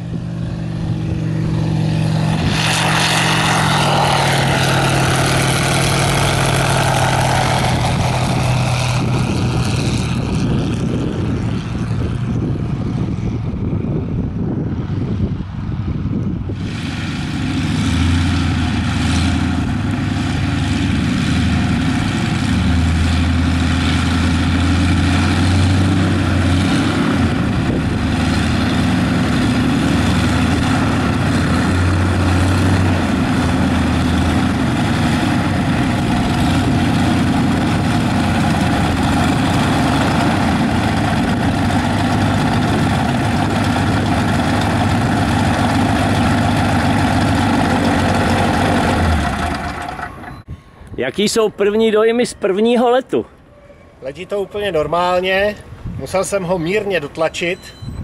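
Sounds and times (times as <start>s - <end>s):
propeller plane engine running: 0.0s - 51.0s.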